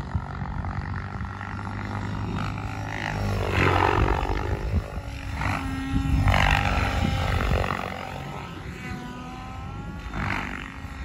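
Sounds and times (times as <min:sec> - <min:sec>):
model helicopter rotor whining: 0:00.0 - 0:11.0.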